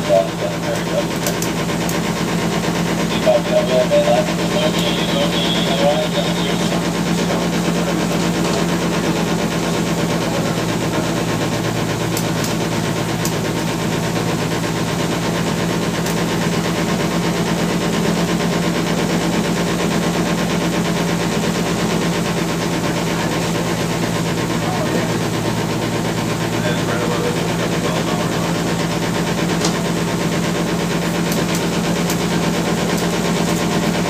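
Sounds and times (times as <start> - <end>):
ferry engine droning: 0.0 - 34.0.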